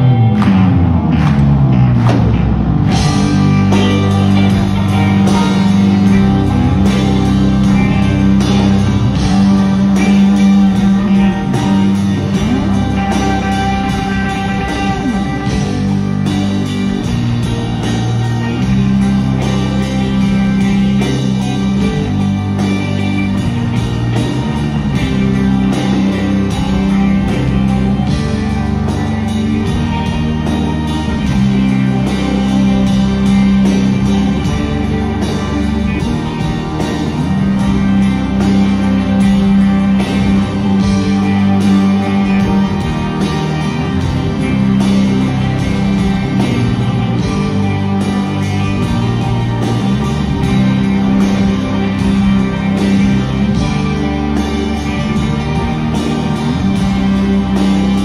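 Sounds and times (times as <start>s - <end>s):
bass and keyboard chords: 0.0s - 58.0s
guitars: 0.0s - 58.0s
live rock band playing: 0.0s - 58.0s.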